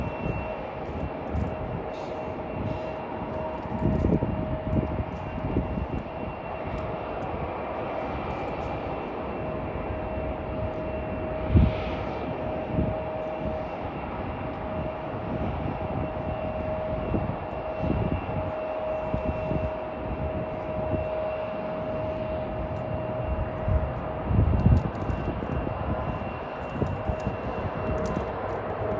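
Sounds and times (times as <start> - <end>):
jet engine whine: 0.0 - 28.9.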